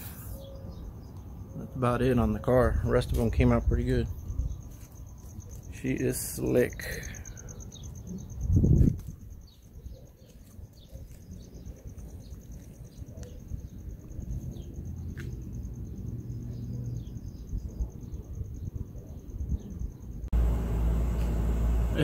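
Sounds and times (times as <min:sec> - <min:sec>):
small birds chirping faintly: 0:00.0 - 0:20.3
crickets chirping: 0:00.0 - 0:22.0.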